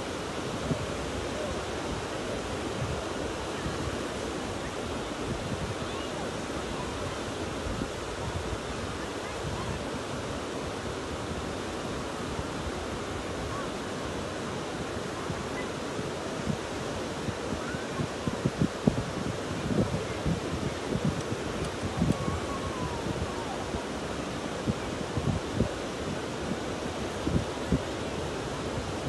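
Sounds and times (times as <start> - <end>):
surf breaking on shore: 0.0 - 29.0
wind buffeting microphone: 0.2 - 29.0.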